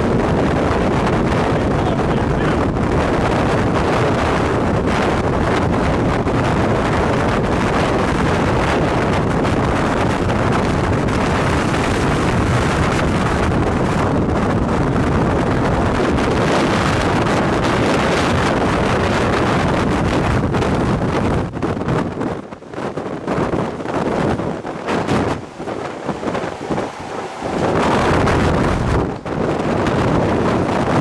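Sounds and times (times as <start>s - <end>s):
strong wind blasting microphone: 0.0s - 31.0s.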